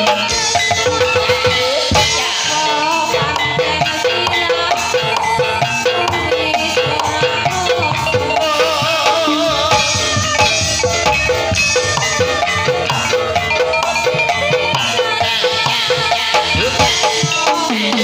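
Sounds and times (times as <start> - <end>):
drums: 0.0 - 18.0
metallophones struck with mallets: 0.0 - 18.0
wavering held melody: 0.0 - 18.0.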